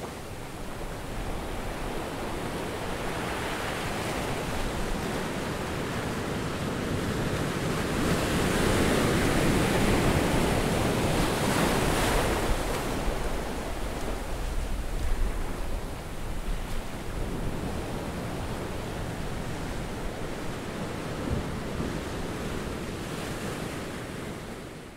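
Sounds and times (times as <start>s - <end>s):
surf breaking on beach: 0.0s - 24.4s.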